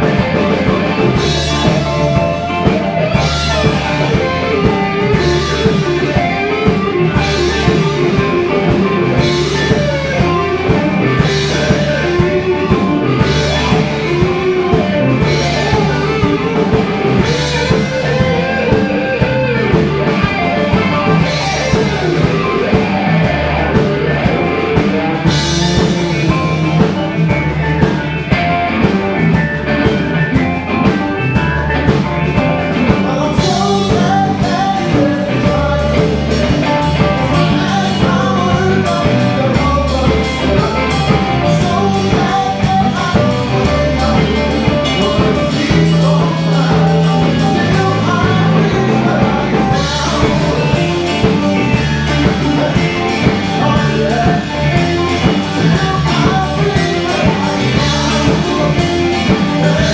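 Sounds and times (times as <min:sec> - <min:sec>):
person singing: 0:00.0 - 0:29.0, 0:31.8 - 0:59.9
rock band playing: 0:00.0 - 0:59.9.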